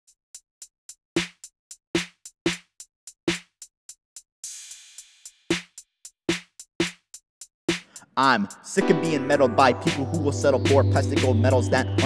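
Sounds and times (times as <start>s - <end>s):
drum machine hip-hop beat: 0.3s - 12.0s.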